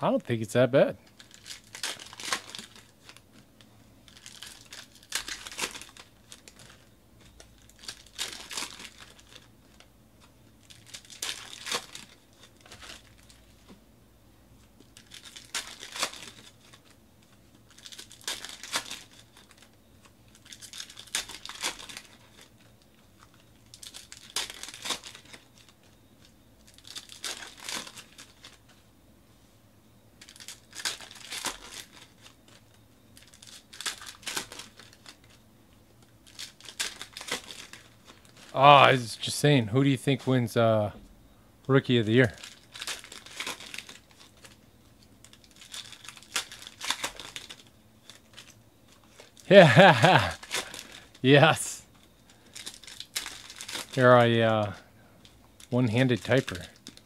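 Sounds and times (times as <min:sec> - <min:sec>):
plastic wrappers crinkling and tearing: 0:01.1 - 0:13.7, 0:14.8 - 0:28.7, 0:30.2 - 0:39.4, 0:42.1 - 0:57.0.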